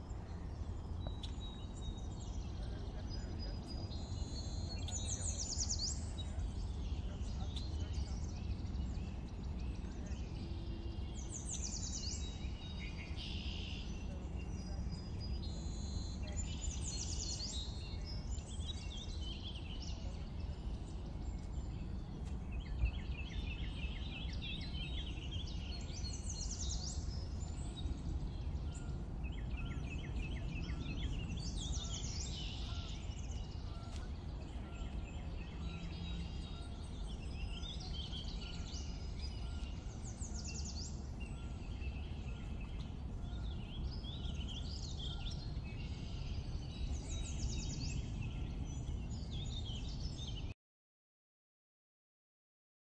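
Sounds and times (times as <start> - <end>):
low background noise: 0.0 - 50.2
small birds chirping: 0.0 - 50.5.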